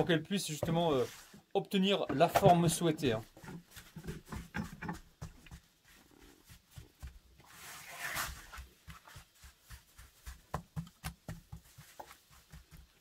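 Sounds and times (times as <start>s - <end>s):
hands patting dough: 2.3s - 13.0s.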